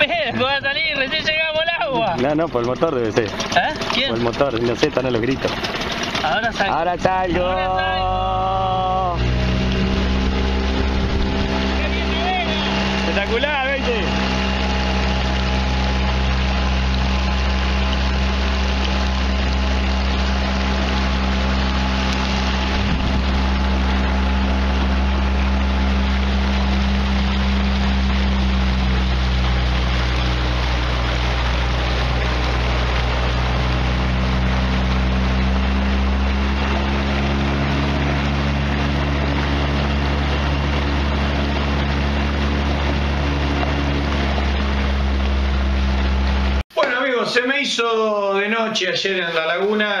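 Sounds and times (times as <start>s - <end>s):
outboard motor running: 0.0s - 46.7s.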